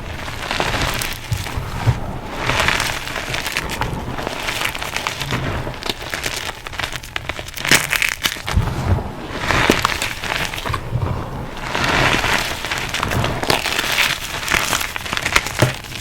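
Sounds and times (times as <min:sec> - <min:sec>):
chalk crunchies crushed in bowl: 0:00.2 - 0:10.9, 0:11.6 - 0:16.0.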